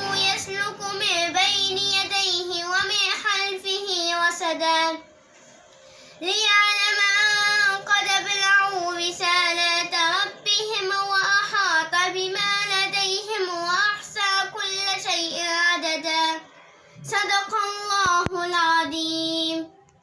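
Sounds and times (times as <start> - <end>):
girl chanting melodic recitation: 0.0 - 5.0, 6.2 - 16.4, 17.0 - 19.7.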